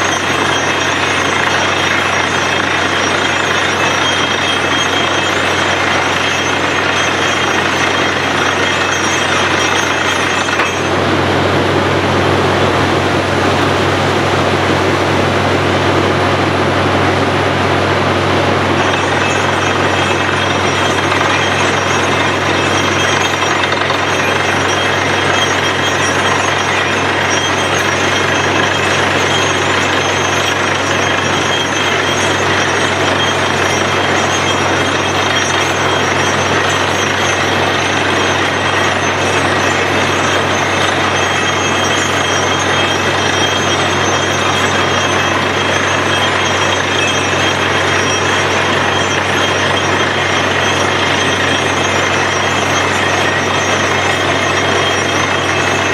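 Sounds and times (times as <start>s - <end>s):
drilling machine hammering clatter: 0.0s - 55.9s
low machine hum: 0.0s - 55.9s.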